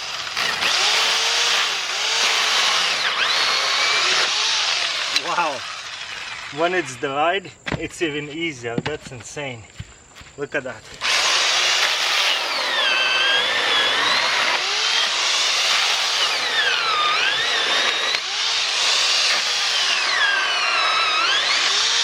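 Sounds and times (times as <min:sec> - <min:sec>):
electric chainsaw cutting wood: 0:00.0 - 0:07.1, 0:11.0 - 0:22.0.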